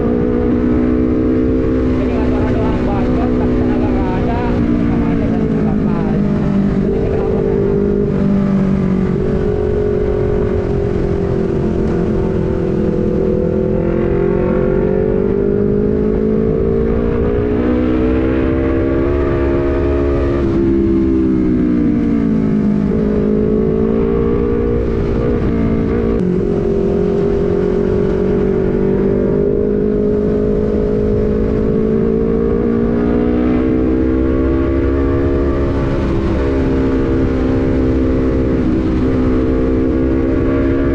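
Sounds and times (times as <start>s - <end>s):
motorcycle engine cruising: 0.0s - 40.9s
wind rumble on microphone: 0.0s - 40.9s.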